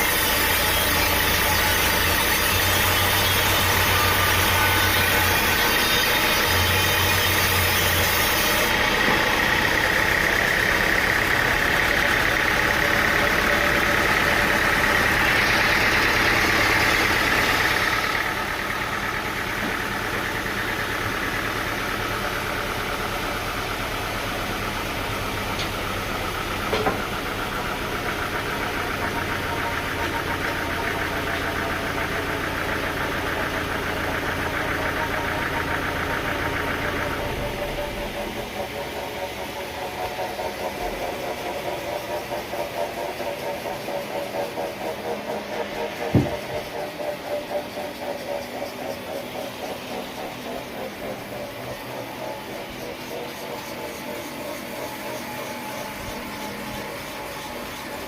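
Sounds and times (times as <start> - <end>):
engine-driven machinery running: 0.0 - 58.0.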